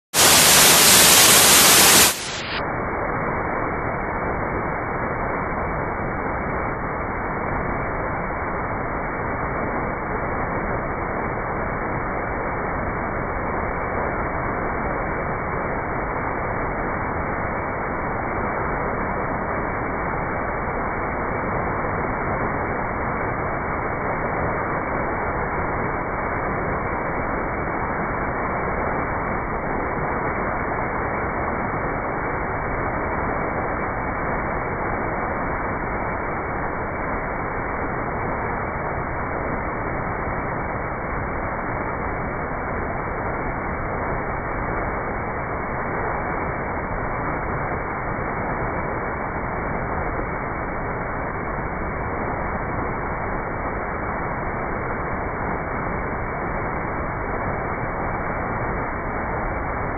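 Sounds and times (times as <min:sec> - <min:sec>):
waterfall pouring and splashing: 0:00.1 - 0:59.9.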